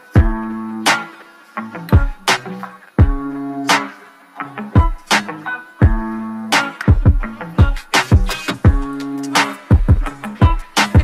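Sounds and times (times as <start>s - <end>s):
plucked strings: 0.0s - 11.0s
steady drum beat: 0.2s - 1.0s, 2.0s - 3.9s, 4.8s - 11.0s.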